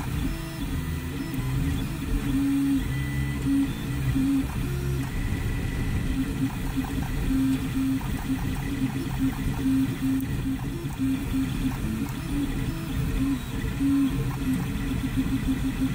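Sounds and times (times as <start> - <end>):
fans whirring: 0.0 - 15.9
stepper motor tones: 0.0 - 15.9.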